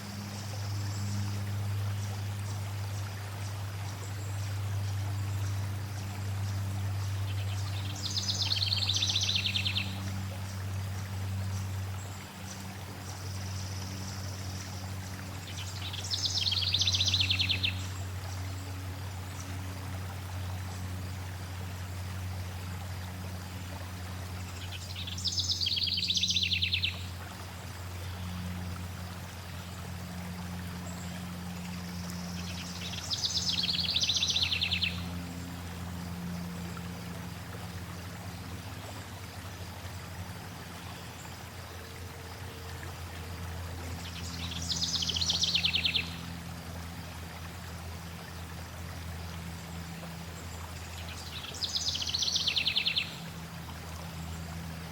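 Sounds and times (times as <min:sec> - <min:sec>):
water flowing: 0:00.0 - 0:54.9.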